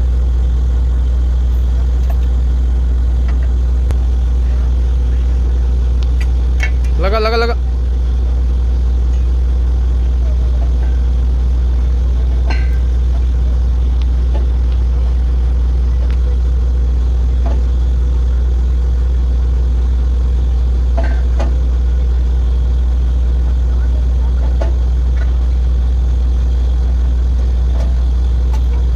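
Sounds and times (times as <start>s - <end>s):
drilling rig engine droning: 0.0s - 28.9s.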